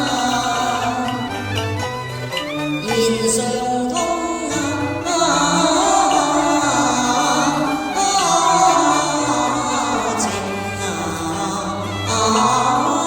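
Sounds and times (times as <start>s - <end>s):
chinese opera-style music: 0.0s - 13.0s.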